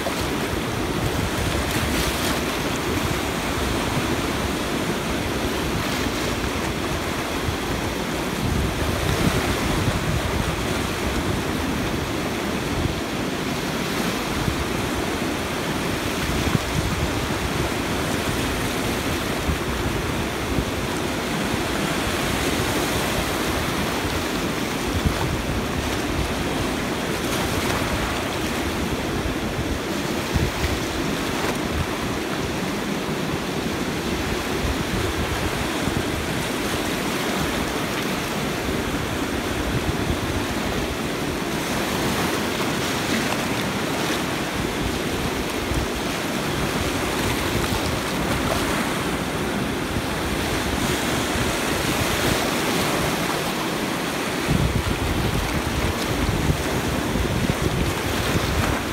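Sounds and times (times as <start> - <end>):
river rushing: 0.0 - 58.9.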